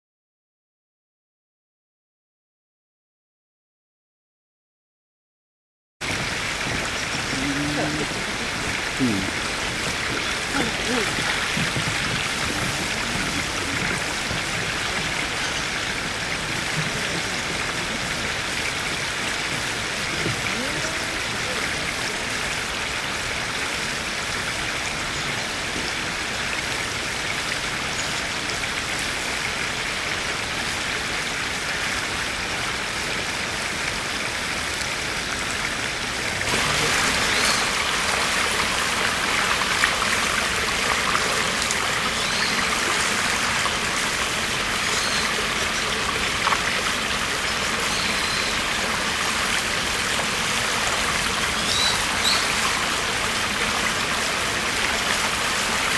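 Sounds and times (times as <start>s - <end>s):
stream trickling over stones: 6.0s - 55.9s.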